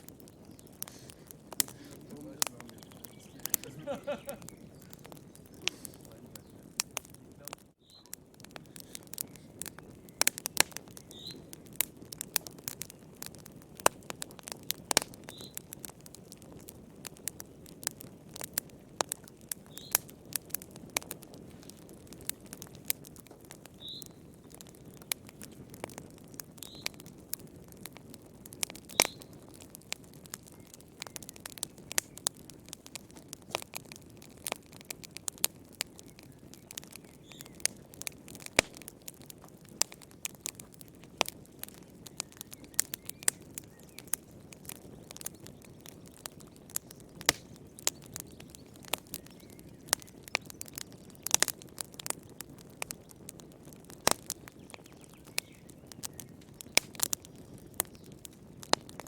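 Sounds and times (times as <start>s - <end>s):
low rustle of flames: 0.0s - 59.0s
wood fire crackling and popping: 0.0s - 59.0s.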